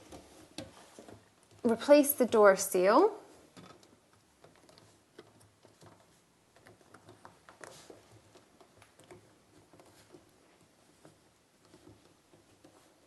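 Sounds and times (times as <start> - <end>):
hands tapping and rubbing rubber seal: 0.0 - 2.8, 3.4 - 13.0.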